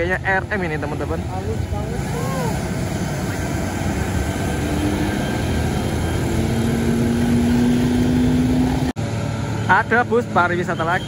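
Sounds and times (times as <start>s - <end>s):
bus diesel engine passing: 0.0s - 11.0s.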